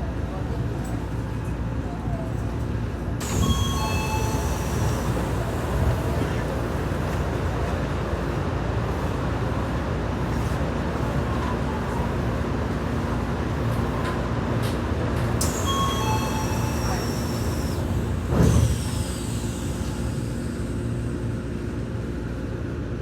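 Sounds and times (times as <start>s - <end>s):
train rumble and hiss: 0.0s - 23.0s.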